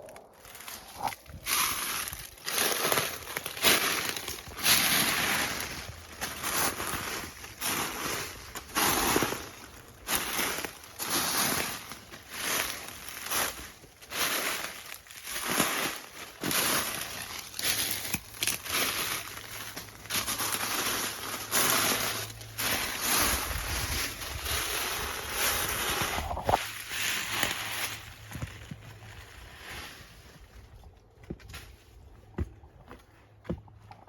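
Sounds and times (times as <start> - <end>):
footsteps on gravel: 0.0 - 34.0.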